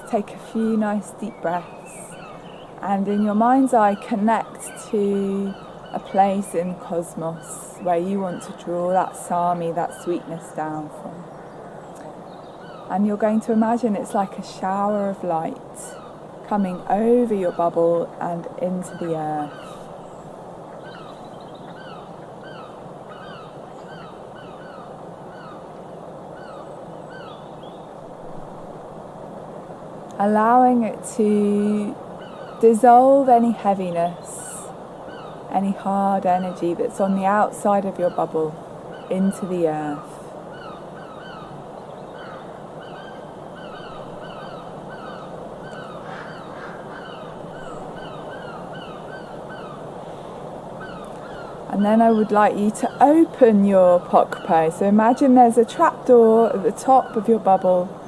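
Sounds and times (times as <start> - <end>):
bird chirping: 0.0 - 13.4, 18.7 - 25.7, 31.6 - 57.8
steady background hiss: 0.0 - 58.0
steady outdoor noise: 0.0 - 58.0.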